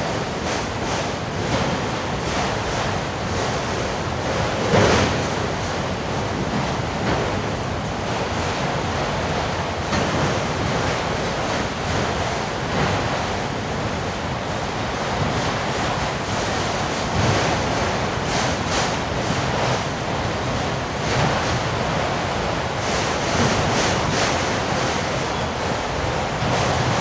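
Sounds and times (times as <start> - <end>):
freight train wheels rumbling on rails: 0.0 - 27.0
train wheels clattering: 0.0 - 27.0.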